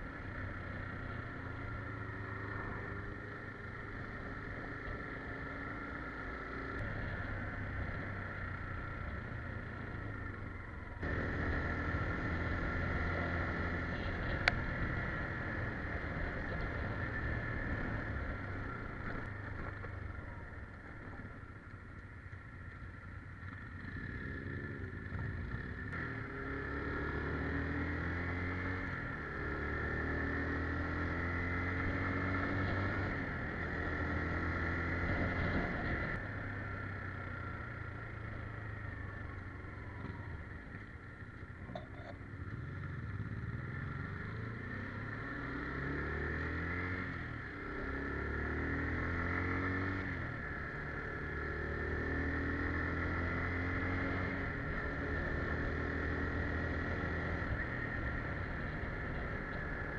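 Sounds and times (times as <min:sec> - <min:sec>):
motorcycle engine accelerating: 0:00.0 - 0:21.7, 0:22.4 - 0:59.9.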